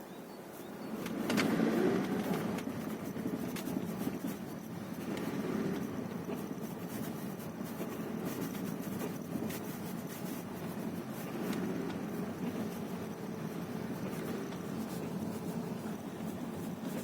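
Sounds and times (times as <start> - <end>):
car engine running: 0.6 - 17.0.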